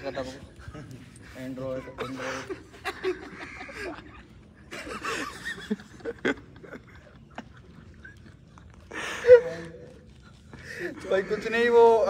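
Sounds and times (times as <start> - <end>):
men chuckling and murmuring: 0.0 - 12.0.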